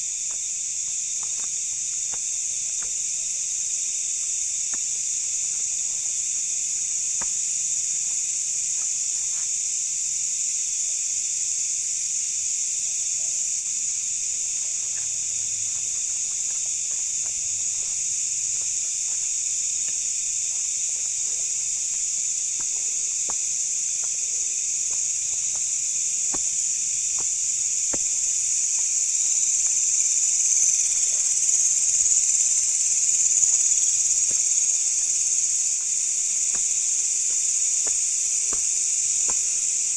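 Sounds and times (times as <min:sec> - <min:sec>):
night insects buzzing trill: 0:00.0 - 0:39.9.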